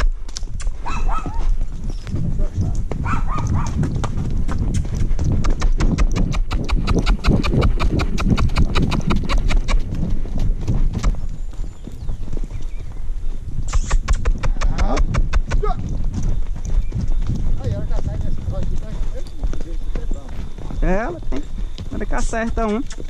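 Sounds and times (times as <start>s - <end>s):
horse hooves on stony trail: 0.0s - 23.0s.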